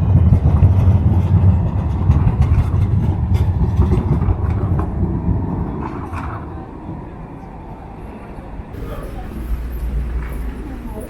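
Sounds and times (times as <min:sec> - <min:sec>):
passing vehicle rumble: 0:00.0 - 0:11.0.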